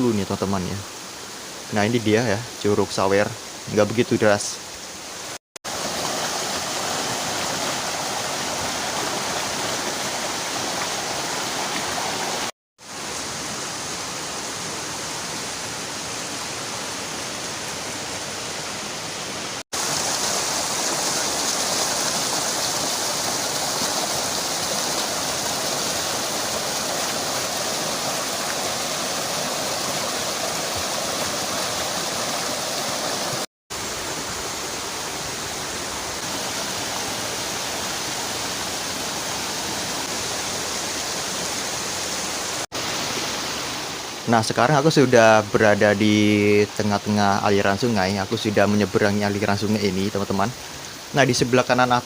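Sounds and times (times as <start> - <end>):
river and waterfall rushing: 0.0 - 52.0.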